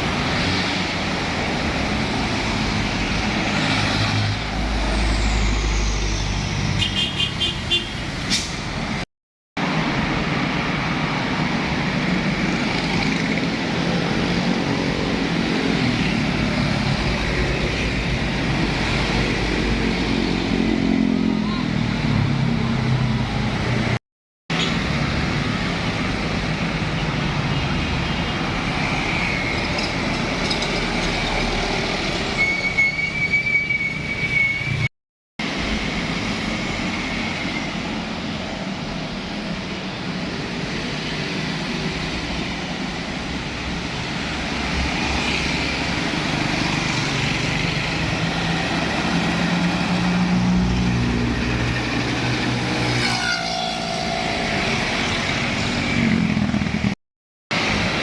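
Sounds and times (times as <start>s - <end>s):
heavy trucks passing: 0.0s - 58.0s.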